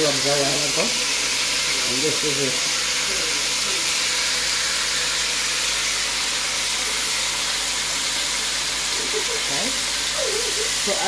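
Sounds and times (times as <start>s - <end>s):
pork frying in hot oil: 0.0s - 11.0s.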